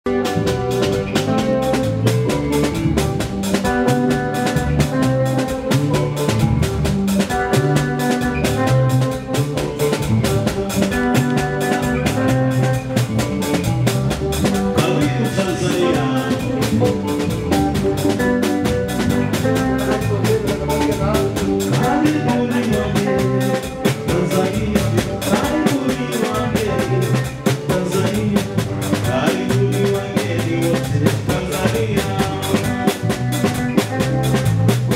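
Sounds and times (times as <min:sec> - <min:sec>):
bass line: 0:00.0 - 0:34.9
drum kit beat: 0:00.0 - 0:34.9
held chords: 0:00.1 - 0:34.9.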